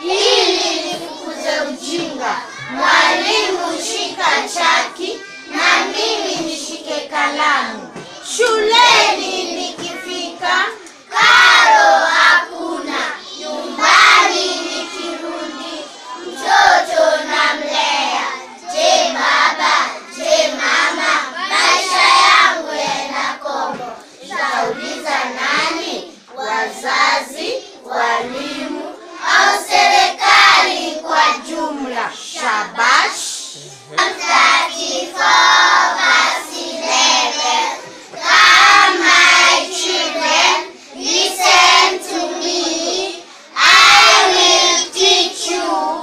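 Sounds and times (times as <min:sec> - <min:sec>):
children chanting in unison: 0:00.0 - 0:46.0.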